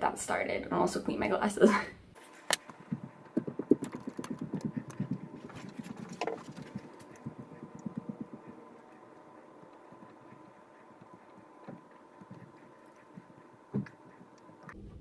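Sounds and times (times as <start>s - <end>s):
cloth rubbing eyeglass lenses: 2.2s - 14.7s.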